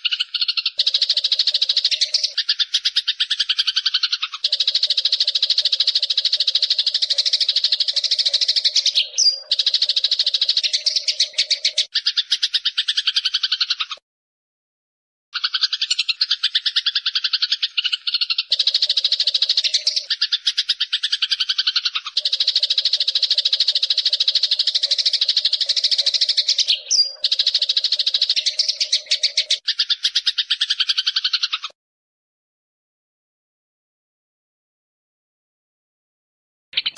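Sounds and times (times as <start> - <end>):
sparrow chirping: 0.0 - 14.0, 15.4 - 31.7.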